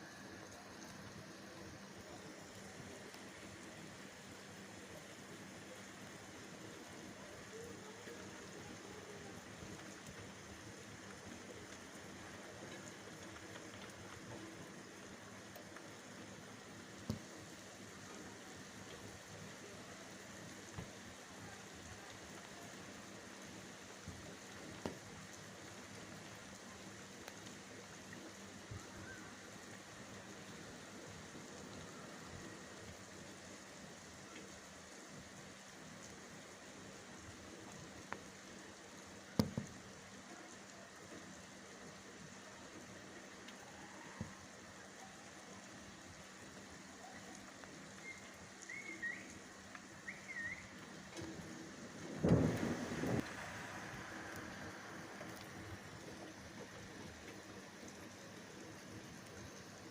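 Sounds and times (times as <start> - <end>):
faint drips: 0.0 - 59.9
steady rain hiss: 0.0 - 59.9.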